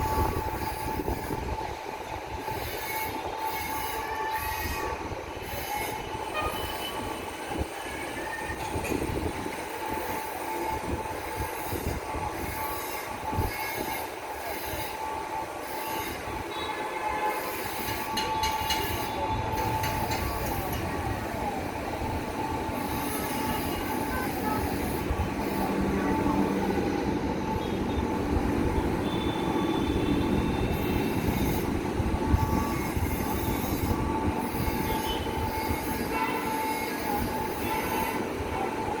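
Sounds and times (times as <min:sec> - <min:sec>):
train coaches rumbling on track: 0:00.0 - 0:39.0
wheels squealing on rails: 0:00.0 - 0:39.0.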